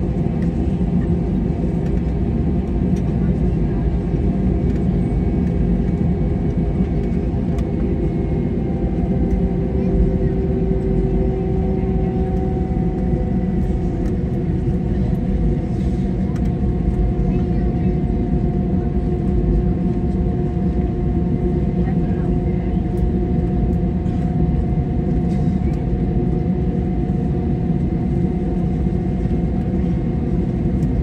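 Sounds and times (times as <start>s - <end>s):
jet engines idling hum: 0.0s - 31.0s.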